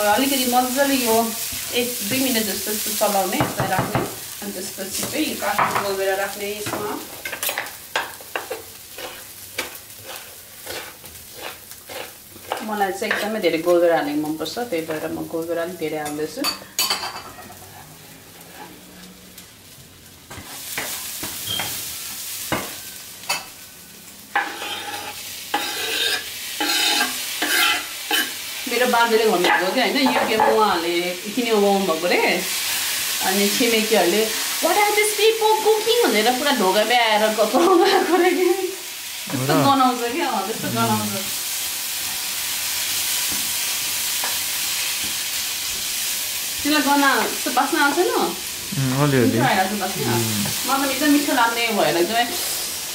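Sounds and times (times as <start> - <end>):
food sizzling in oil: 0.0 - 52.9.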